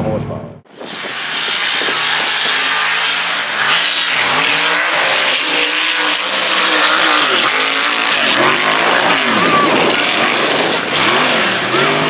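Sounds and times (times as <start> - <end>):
truck engine revving: 0.7 - 12.0.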